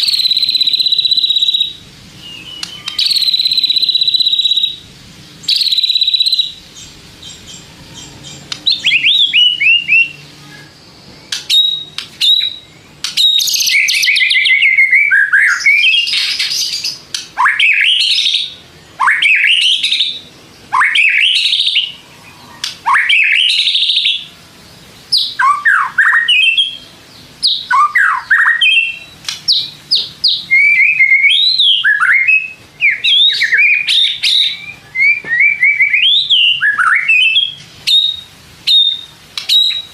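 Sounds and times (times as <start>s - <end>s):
songbird whistling and chattering: 0.0s - 4.8s, 5.4s - 24.3s, 25.1s - 39.9s.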